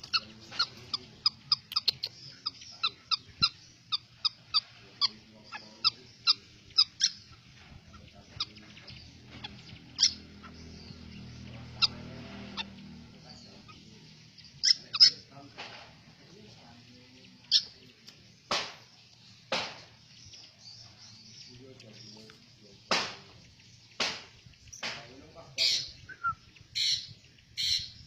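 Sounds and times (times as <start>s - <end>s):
birds chirping sharply: 0.0s - 28.0s.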